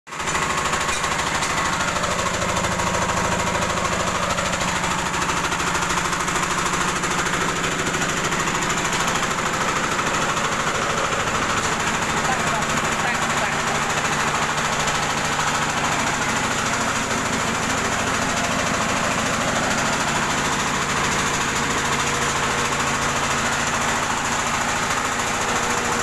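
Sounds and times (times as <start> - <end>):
diesel engine knocking steadily: 0.1 - 26.0.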